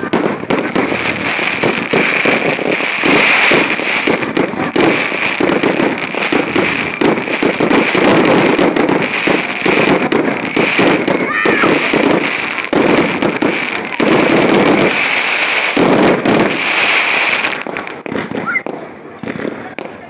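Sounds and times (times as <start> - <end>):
fireworks crackle: 0.0 - 20.0
fireworks pops and bangs: 0.0 - 20.0.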